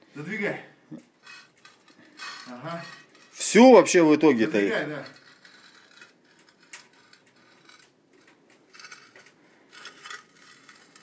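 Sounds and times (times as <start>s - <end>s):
metal damper plate scraping: 1.2s - 11.0s.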